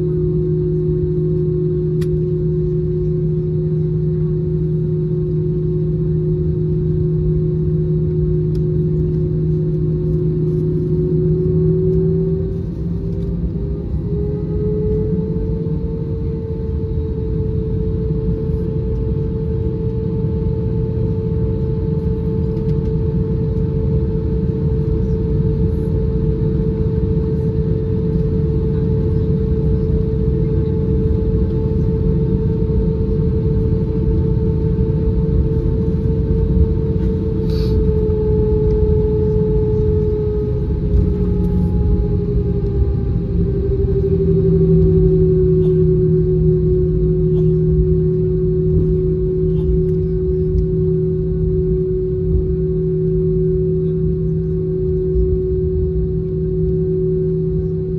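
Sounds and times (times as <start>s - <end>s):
jet engines idling: 0.0s - 57.9s.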